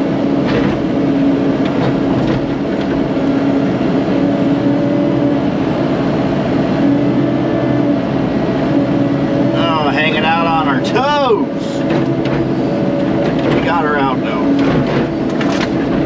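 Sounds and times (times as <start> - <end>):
excavator diesel engine under load: 0.0 - 16.0.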